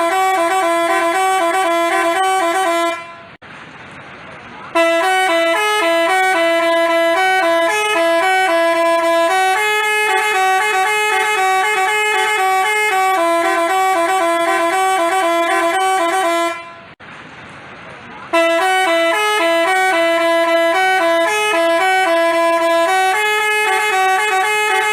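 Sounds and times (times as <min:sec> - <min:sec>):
musical bus horn playing tune: 0:00.0 - 0:03.4, 0:04.7 - 0:17.0, 0:18.3 - 0:24.9.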